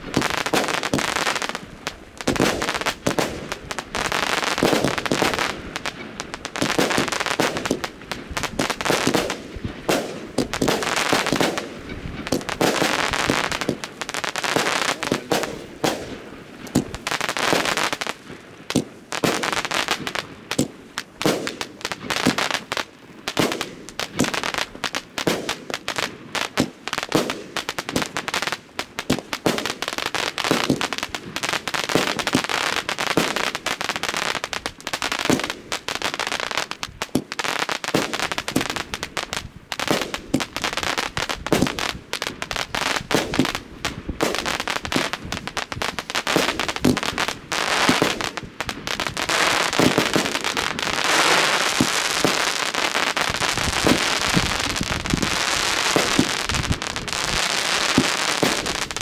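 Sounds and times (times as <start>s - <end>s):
firework bangs: 0.0s - 59.0s
firework crackling: 0.0s - 59.0s.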